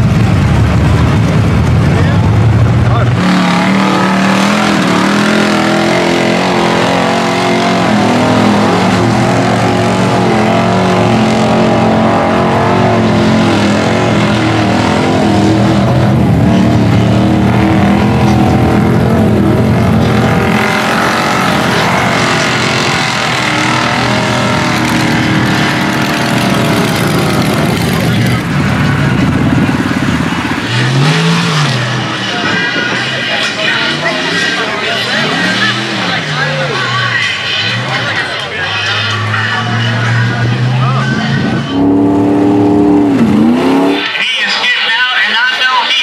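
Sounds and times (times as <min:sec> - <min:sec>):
truck engine revving hard: 0:00.0 - 0:44.4
tires churning through mud: 0:00.0 - 0:46.0.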